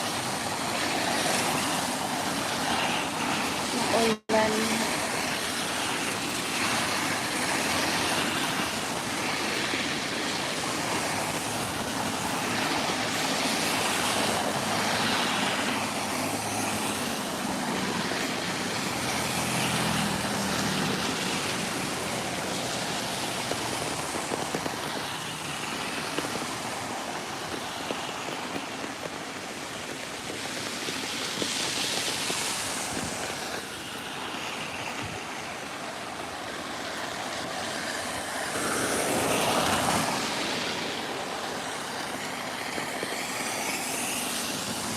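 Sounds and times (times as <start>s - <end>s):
vehicles hissing past on wet road: 0.0s - 44.9s.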